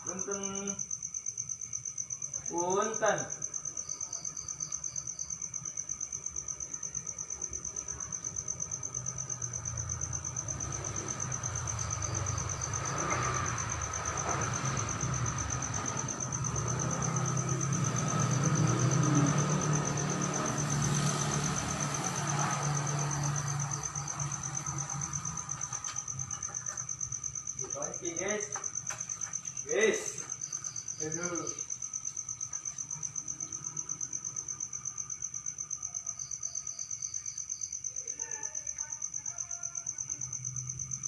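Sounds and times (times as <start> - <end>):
cricket trilling: 0.0 - 41.0.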